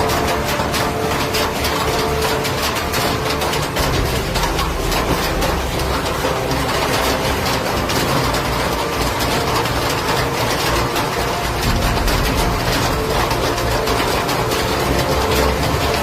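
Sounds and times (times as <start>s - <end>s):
rain and hail on hard surfaces: 0.0s - 16.0s.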